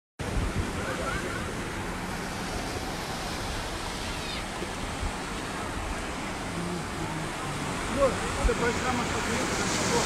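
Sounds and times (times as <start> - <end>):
ocean surf breaking on beach: 0.2 - 10.0.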